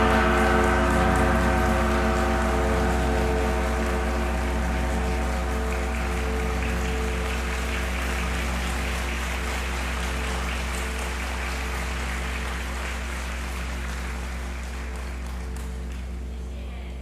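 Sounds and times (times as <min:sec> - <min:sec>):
singing bowls ringing: 0:00.0 - 0:16.6
gong ringing: 0:00.0 - 0:16.7.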